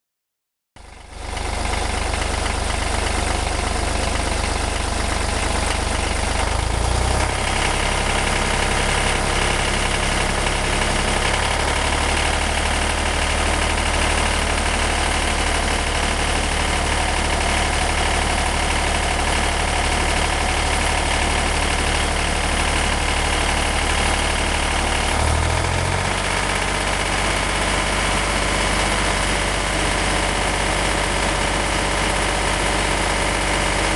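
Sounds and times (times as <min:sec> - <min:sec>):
tractor engine idling: 0:00.8 - 0:33.9.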